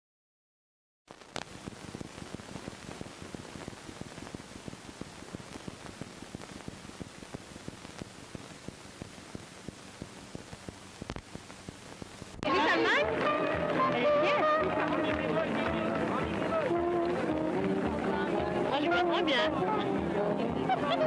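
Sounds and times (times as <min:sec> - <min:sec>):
film crackle: 0:01.1 - 0:18.2
film soundtrack hiss: 0:01.1 - 0:21.0.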